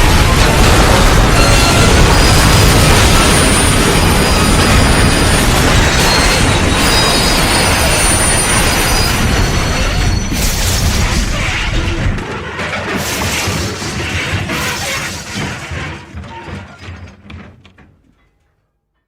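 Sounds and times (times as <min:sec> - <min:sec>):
train crash shattering: 0:00.0 - 0:18.4.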